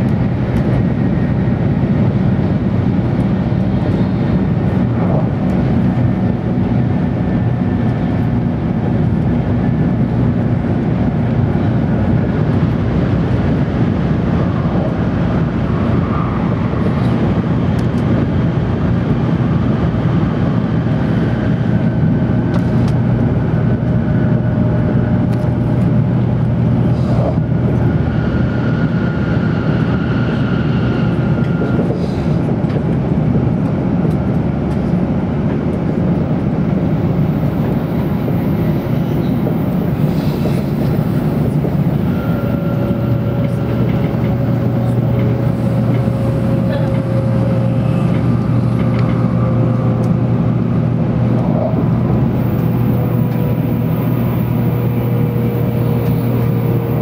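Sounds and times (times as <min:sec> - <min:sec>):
train wheels and air rumble: 0:00.0 - 0:57.0.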